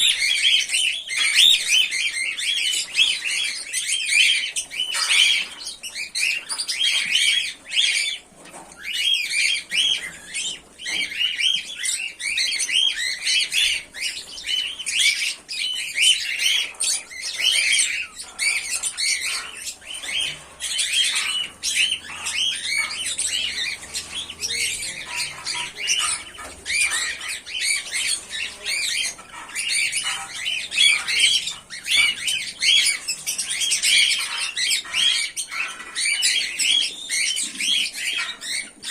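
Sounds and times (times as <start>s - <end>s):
cockatiels chirping and squawking: 0.0s - 38.9s.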